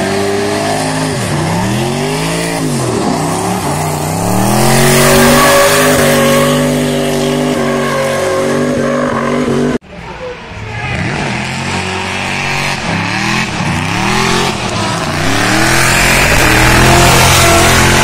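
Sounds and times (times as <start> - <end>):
car engine revving hard: 0.0 - 9.8, 11.0 - 18.0.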